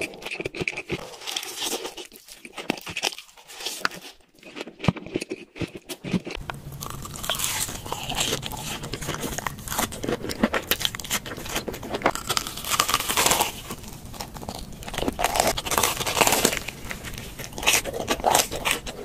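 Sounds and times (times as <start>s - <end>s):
crunchy food being chewed: 0.0s - 19.0s.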